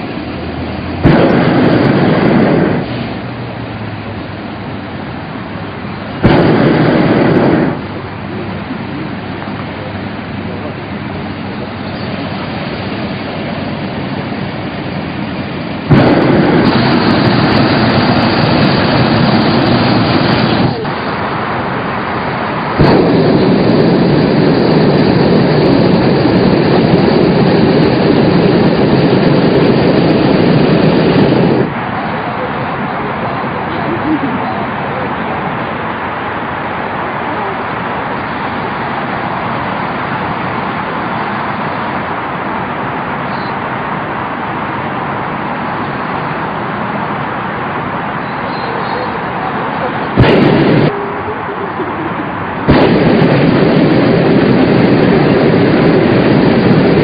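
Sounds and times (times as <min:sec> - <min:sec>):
propane burner blast: 0:00.0 - 0:57.0
steady rushing noise: 0:00.0 - 0:57.0.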